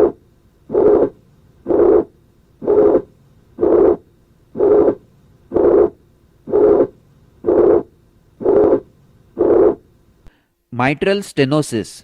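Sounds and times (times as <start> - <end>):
harsh systolic heart murmur: 0.0 - 10.0.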